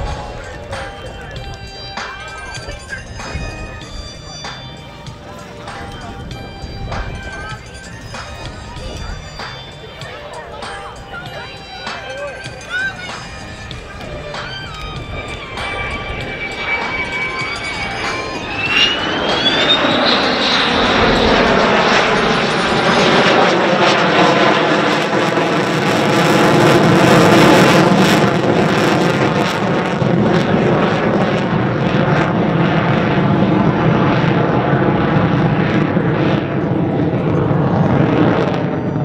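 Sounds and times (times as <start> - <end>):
jet engine roaring on afterburner: 0.0 - 39.0.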